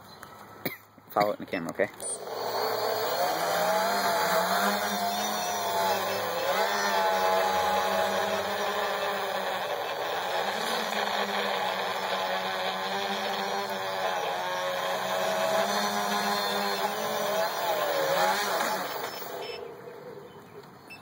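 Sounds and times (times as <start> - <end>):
drone propellers whining: 2.0 - 20.3.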